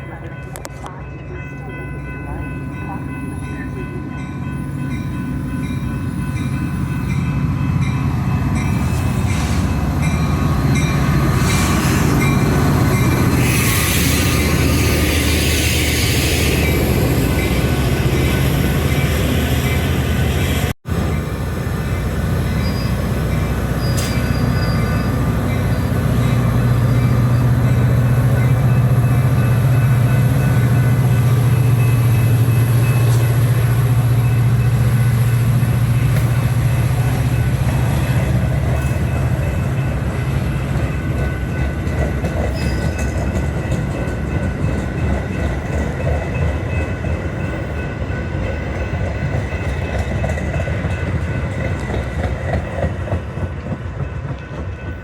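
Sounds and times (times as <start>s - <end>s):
diesel locomotive engine drone: 0.0s - 55.0s
train rolling by: 0.0s - 55.0s.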